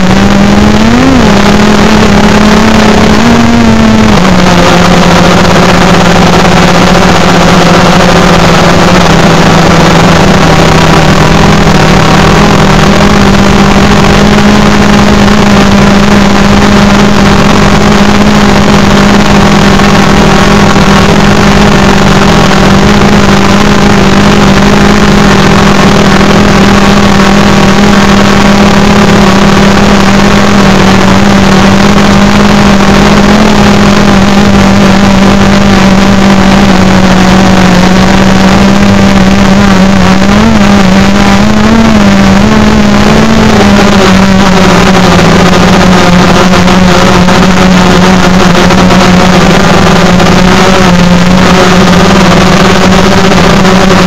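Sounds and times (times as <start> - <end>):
drone propellers buzzing: 0.0 - 54.0
wind noise: 0.0 - 54.0.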